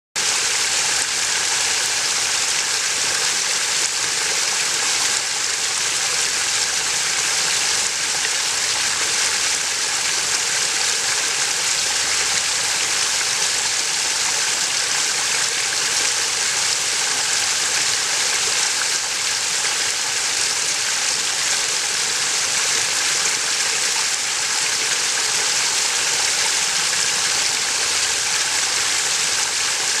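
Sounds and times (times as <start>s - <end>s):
water rushing over waterfall: 0.2s - 30.0s.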